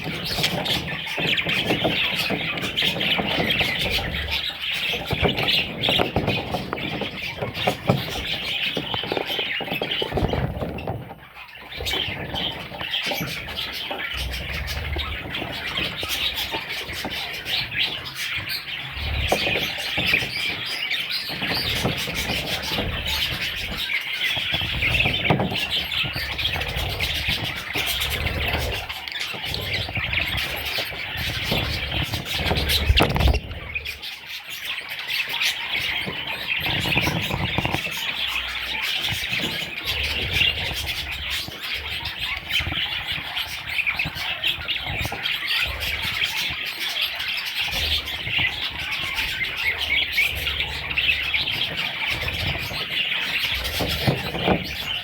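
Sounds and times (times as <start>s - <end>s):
budgies chirping and chattering: 0.0s - 55.0s.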